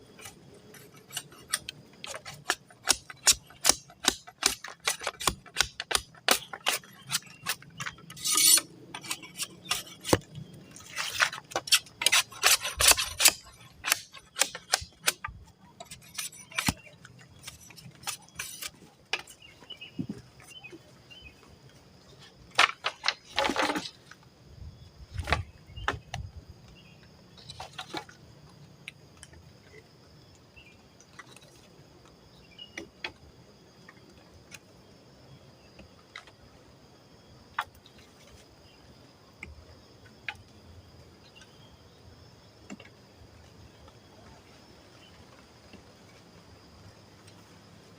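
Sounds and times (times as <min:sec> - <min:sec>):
thin insect tone: 0:00.0 - 0:47.9.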